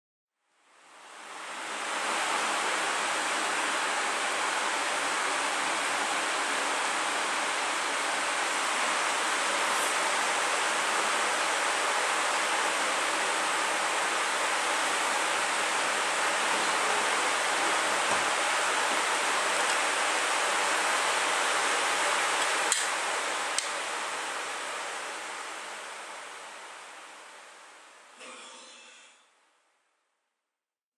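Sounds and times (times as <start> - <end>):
dense rain hiss: 0.6 - 28.1.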